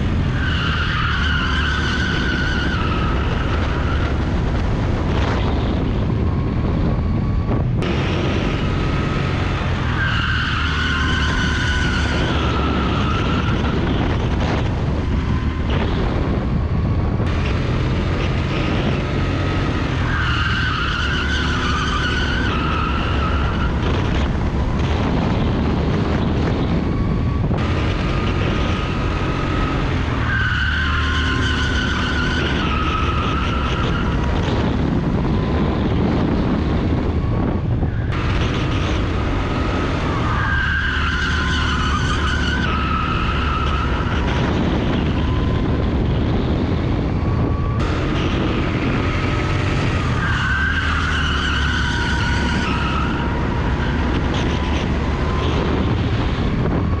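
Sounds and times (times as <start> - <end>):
high tyre squeal: 0.0 - 16.2, 18.4 - 57.0
go-kart engine running: 0.0 - 57.0.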